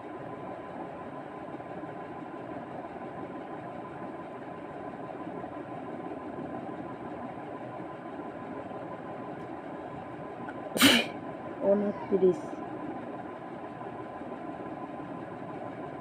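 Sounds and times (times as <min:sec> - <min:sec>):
motor hum with faint high tone: 0:00.0 - 0:16.0.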